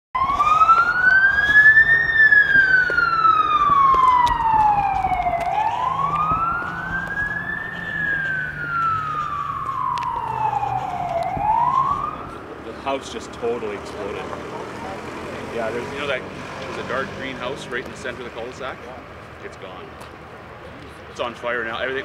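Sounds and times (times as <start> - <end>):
emergency siren wailing: 0.2 - 18.9.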